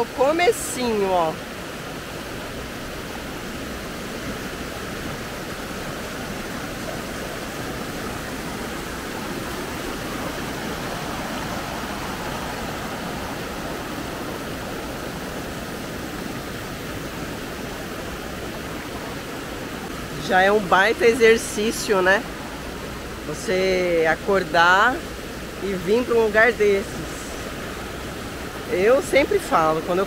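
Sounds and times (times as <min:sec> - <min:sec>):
water rushing over rock: 0:00.0 - 0:30.0.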